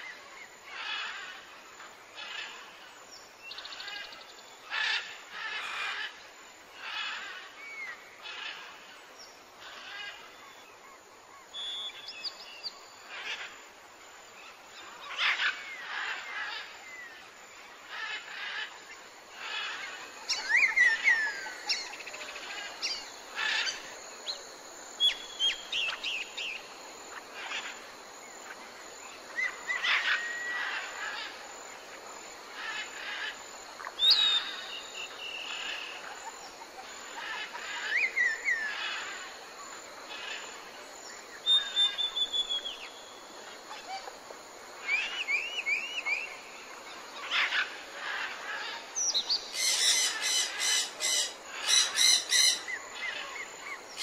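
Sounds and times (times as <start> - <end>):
steady background hiss: 0.0 - 54.0
wild birds singing and calling: 0.0 - 54.0.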